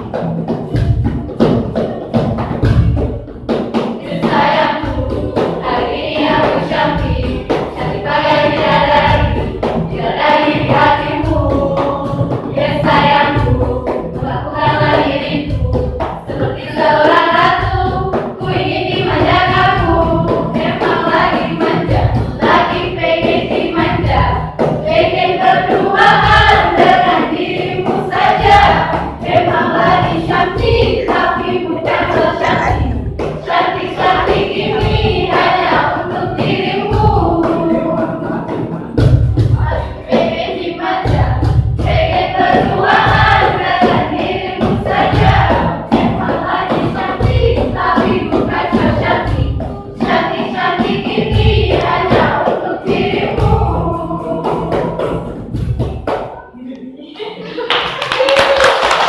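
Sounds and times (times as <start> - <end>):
steady low drum beat: 0.0 - 56.2
choir singing: 4.0 - 55.4.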